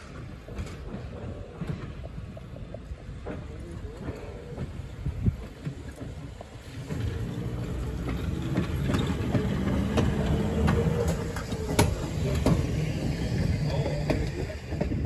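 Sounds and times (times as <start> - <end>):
streetcar rumble and hum: 0.0 - 15.0
wheels clicking on track: 0.0 - 15.0.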